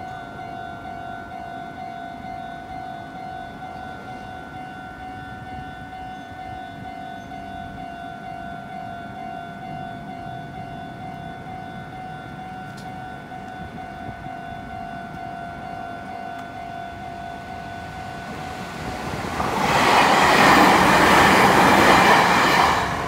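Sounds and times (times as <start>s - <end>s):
level-crossing warning bell ringing: 0.0s - 23.0s
train passing: 0.0s - 23.0s.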